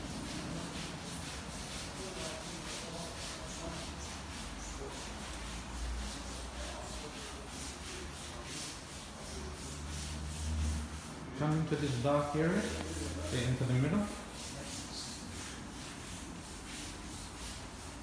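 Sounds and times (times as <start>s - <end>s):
floor scrubber scrubbing concrete: 0.0s - 18.0s.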